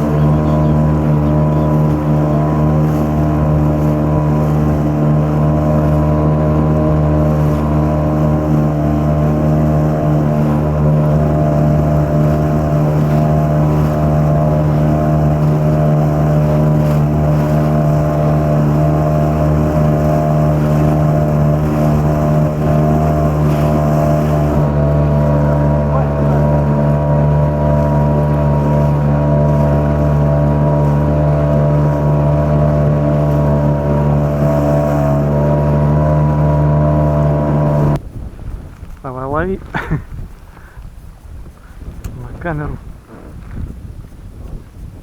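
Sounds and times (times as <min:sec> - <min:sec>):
outboard motor drone: 0:00.0 - 0:45.0.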